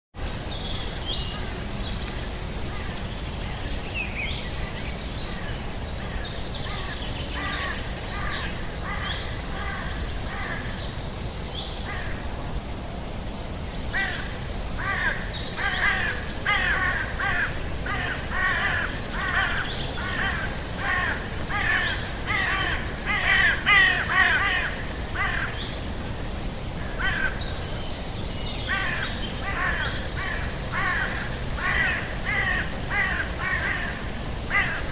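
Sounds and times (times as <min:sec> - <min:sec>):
low background noise: 0:00.2 - 0:34.9
birds calling: 0:00.4 - 0:12.4, 0:13.6 - 0:34.9.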